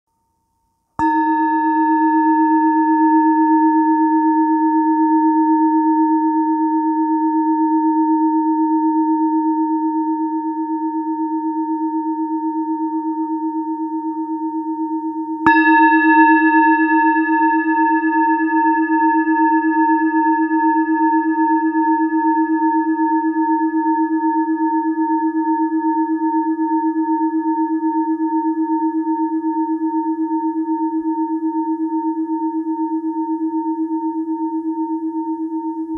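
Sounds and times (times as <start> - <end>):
singing bowl struck and ringing: 1.0 - 35.9.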